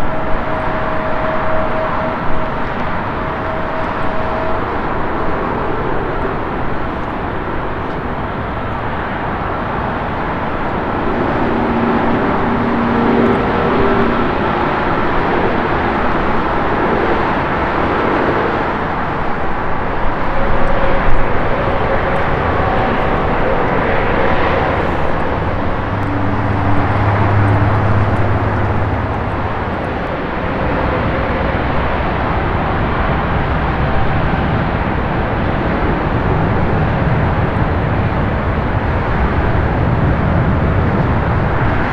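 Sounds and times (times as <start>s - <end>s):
jet engines at taxi power: 0.0s - 41.9s.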